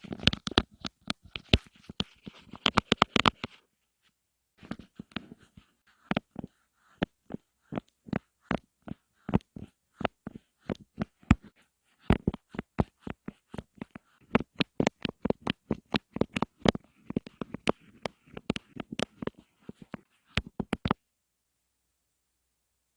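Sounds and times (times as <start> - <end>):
crisp close-up tapping: 0.0 - 3.6, 4.6 - 21.0.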